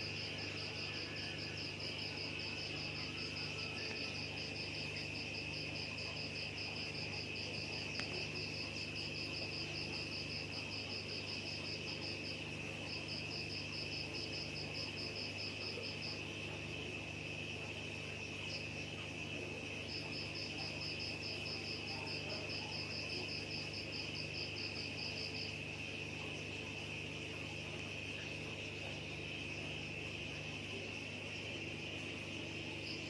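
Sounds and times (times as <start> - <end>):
cricket pulsed chirping: 0.0 - 33.0
cricket steady high trill: 0.0 - 33.0.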